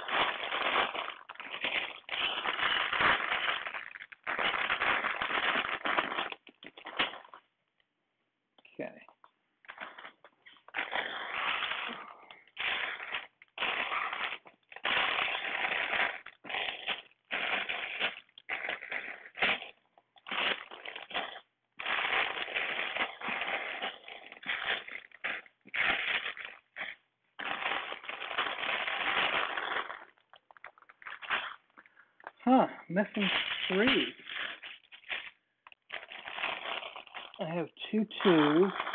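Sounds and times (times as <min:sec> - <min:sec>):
plastic bags crinkling: 0:00.0 - 0:07.5, 0:08.7 - 0:38.9.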